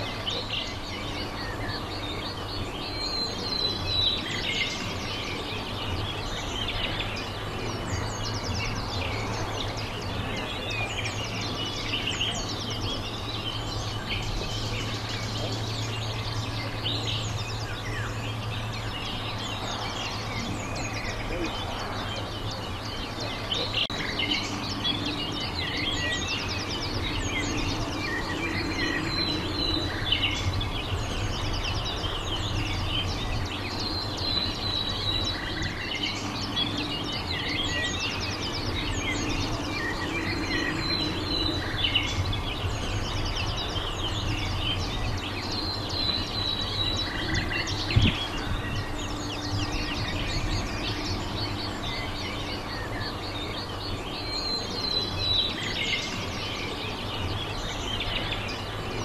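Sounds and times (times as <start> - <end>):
small birds singing: 0.0 - 59.0
low rumble: 4.2 - 53.0.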